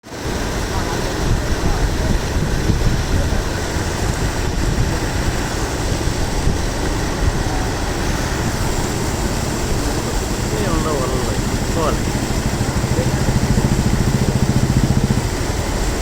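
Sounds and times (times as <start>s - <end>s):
steady rain: 0.0s - 16.0s
heavy low rumble: 0.1s - 16.0s.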